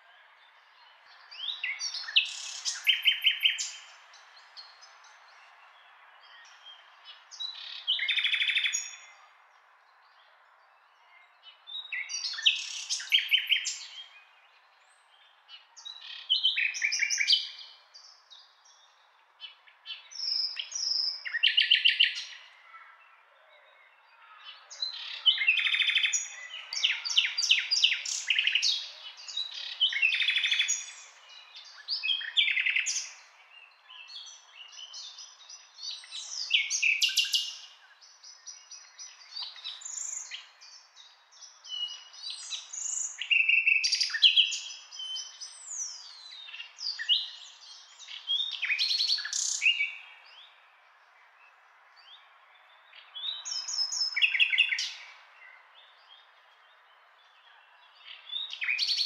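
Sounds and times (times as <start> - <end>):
nightingale singing: 0.5 - 9.3, 11.0 - 22.4, 23.6 - 50.7, 52.0 - 59.0.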